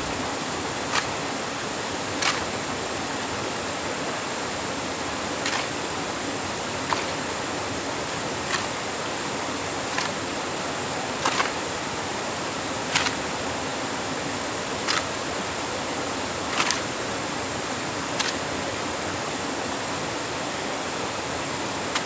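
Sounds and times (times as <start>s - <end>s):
steady high-pitched hiss: 0.0s - 22.0s.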